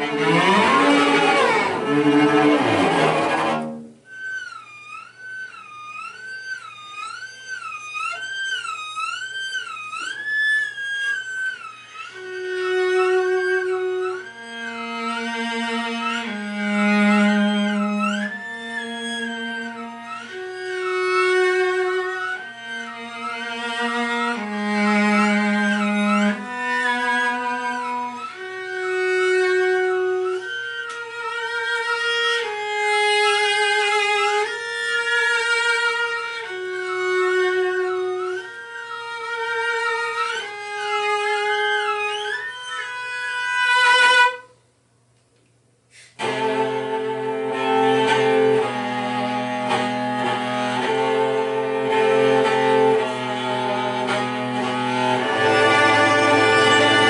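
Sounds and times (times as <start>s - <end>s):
cello quartet playing: 0.0s - 44.5s, 46.0s - 57.0s.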